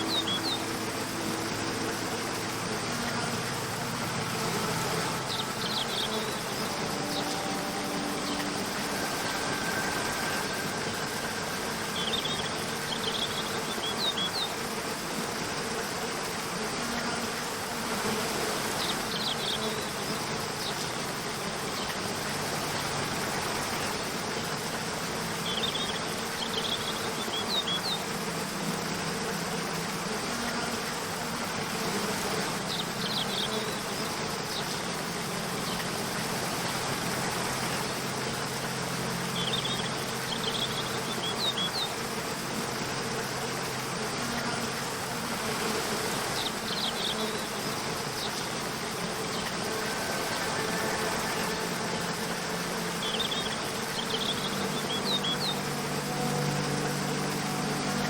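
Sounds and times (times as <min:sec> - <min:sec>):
waterfall rushing: 0:00.0 - 0:16.6, 0:17.3 - 0:58.0
soft sustained background music: 0:00.0 - 0:58.0.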